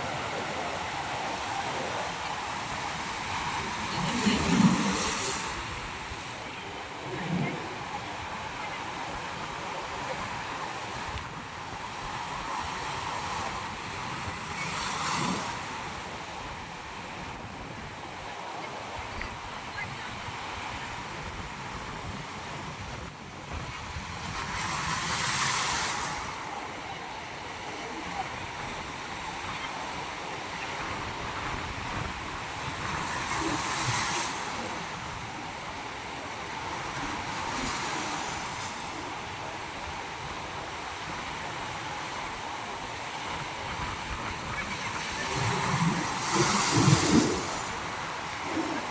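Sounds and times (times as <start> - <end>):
ocean surf on beach: 0.0 - 48.9.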